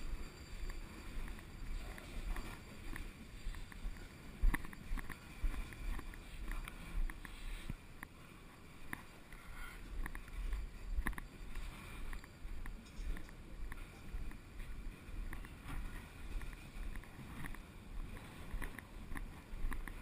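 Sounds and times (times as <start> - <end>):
footsteps on steel walkway: 0.0 - 20.0
wind rumble on microphone: 0.0 - 20.0.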